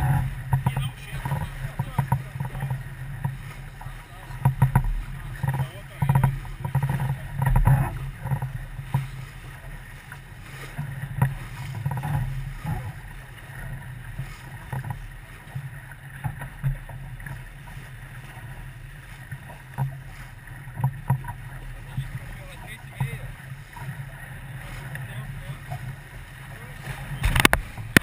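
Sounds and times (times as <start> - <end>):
boat engine hum: 0.0 - 28.0
knocks against hull: 0.0 - 28.0
water washing: 0.0 - 28.0.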